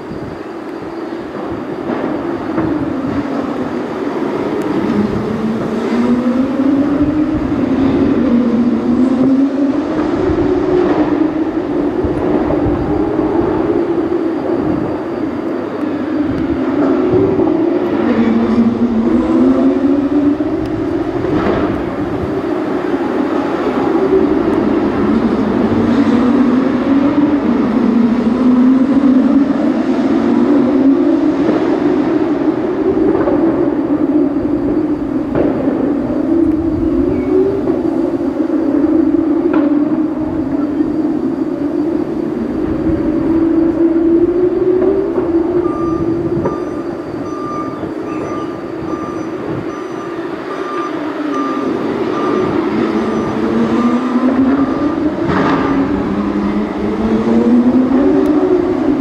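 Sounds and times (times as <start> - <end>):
engines running: 0.0 - 59.0.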